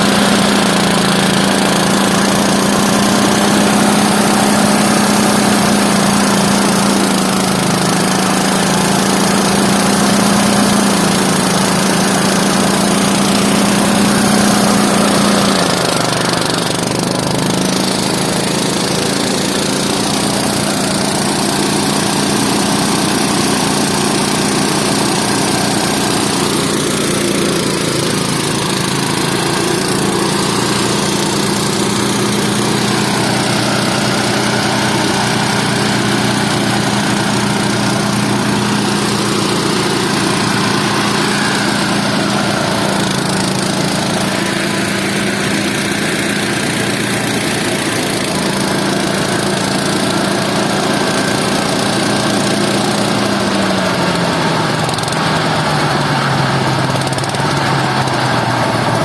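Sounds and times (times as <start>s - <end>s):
harvester engine running: 0.0s - 59.0s.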